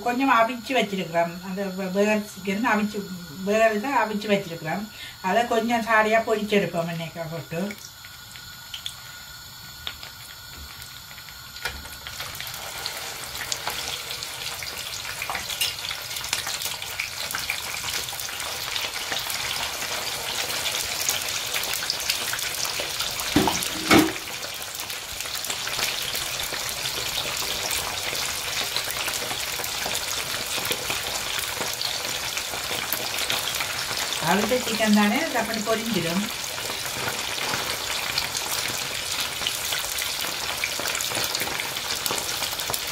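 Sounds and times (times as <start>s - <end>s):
patties sizzling in oil: 0.0s - 42.9s.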